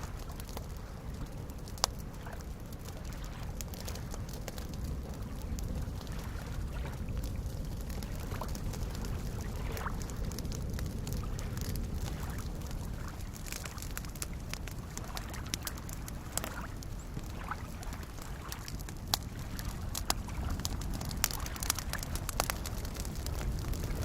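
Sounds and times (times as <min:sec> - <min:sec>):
campfire crackling: 0:00.0 - 0:24.0
lake waves lapping: 0:00.0 - 0:24.0
sharp fire pops: 0:00.0 - 0:24.0.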